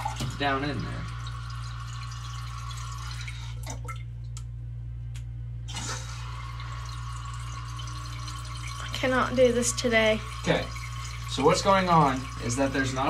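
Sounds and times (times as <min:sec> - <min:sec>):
water trickling in toilet tank: 0:00.0 - 0:04.4, 0:05.7 - 0:13.0.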